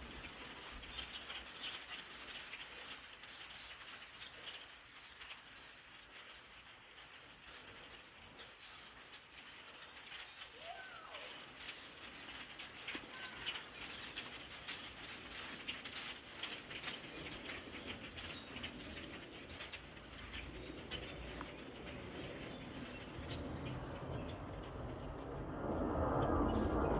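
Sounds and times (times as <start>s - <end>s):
flock of birds chattering: 0.0s - 26.9s.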